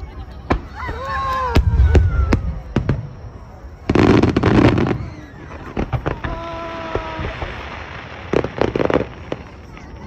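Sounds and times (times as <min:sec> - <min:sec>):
fireworks crackling: 0:00.0 - 0:10.0.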